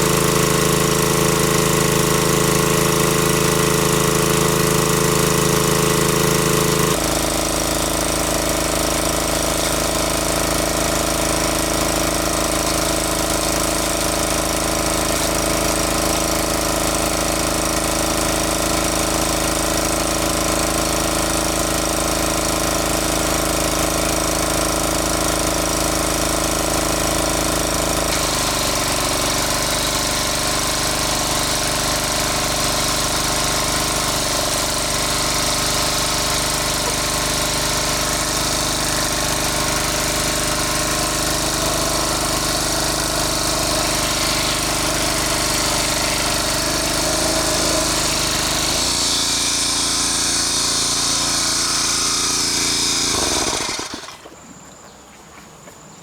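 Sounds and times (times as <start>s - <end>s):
water pump engine droning: 0.0s - 54.6s.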